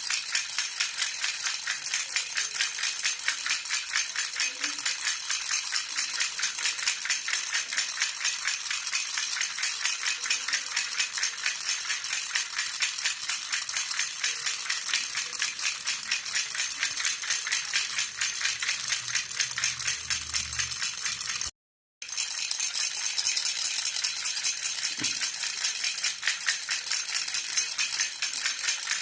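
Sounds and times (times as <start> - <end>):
baby rattle jingling: 0.0 - 29.0.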